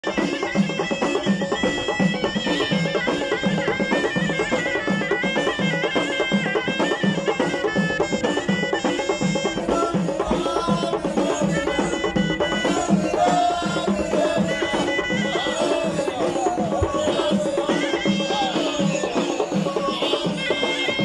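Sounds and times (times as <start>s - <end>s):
frame drums beating: 0.0s - 21.0s.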